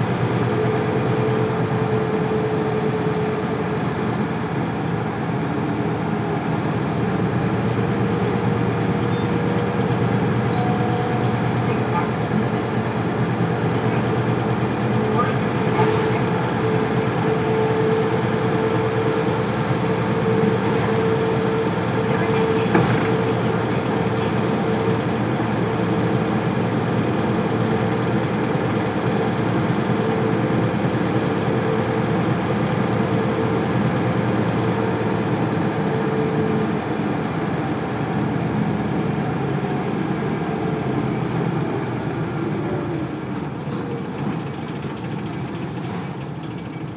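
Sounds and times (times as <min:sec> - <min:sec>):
diesel bus engine running: 0:00.0 - 0:46.9.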